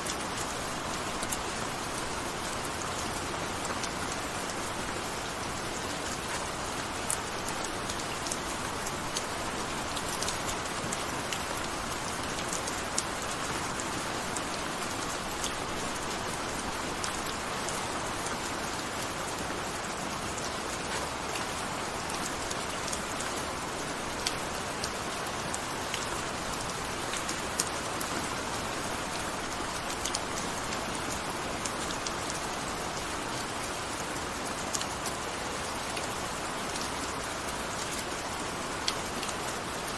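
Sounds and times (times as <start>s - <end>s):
gentle steady rain: 0.0s - 39.9s
raindrops ticking on a surface: 0.0s - 39.9s.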